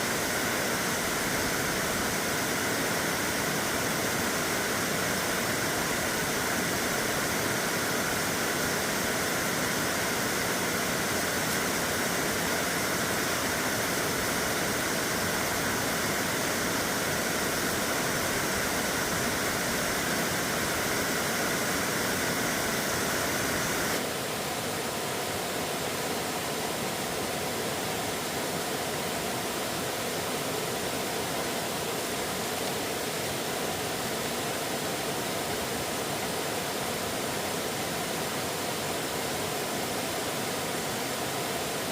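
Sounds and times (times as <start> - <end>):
flowing water rushing: 0.0 - 41.9.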